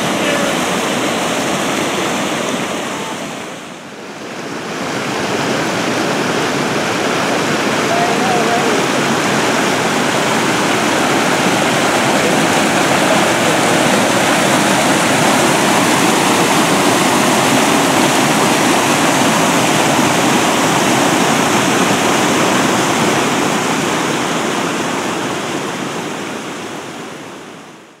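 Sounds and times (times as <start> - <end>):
creek water rushing over rocks: 0.0 - 28.0.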